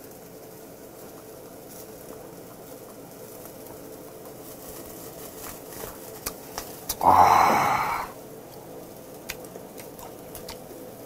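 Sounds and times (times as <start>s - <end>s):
meat sizzling on grill: 0.0s - 11.0s.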